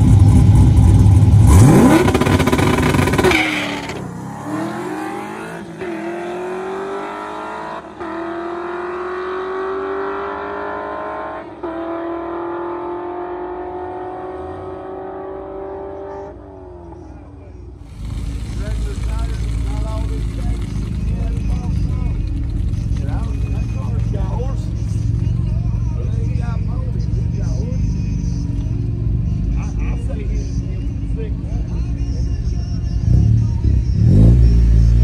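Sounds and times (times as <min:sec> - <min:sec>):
drag racing car accelerating: 0:00.0 - 0:31.5, 0:33.0 - 0:35.0.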